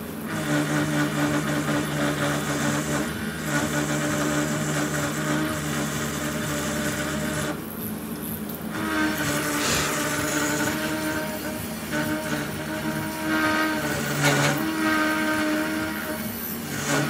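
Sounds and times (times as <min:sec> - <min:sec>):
drill bit cutting steel: 0:00.0 - 0:17.0
drill press spindle humming: 0:00.0 - 0:17.0.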